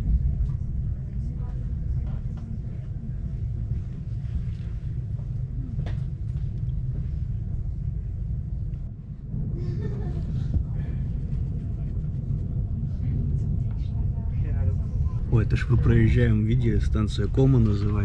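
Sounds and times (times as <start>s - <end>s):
moving train rumbling: 0.0s - 18.0s.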